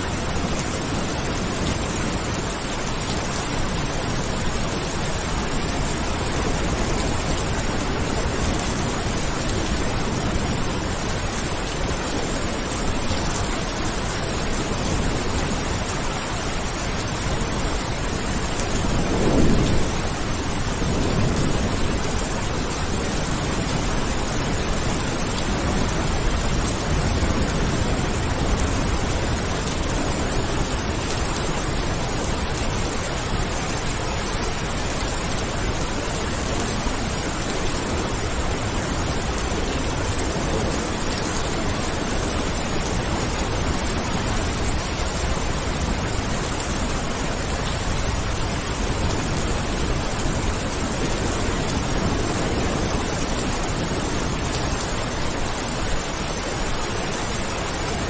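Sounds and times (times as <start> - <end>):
heavy rain: 0.0 - 58.0
thunder rumbling: 0.2 - 58.0.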